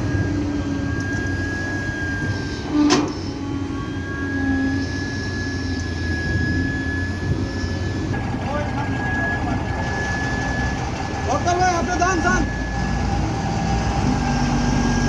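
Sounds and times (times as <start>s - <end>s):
excavator diesel engine running: 0.0s - 15.0s
high whine: 0.0s - 15.0s.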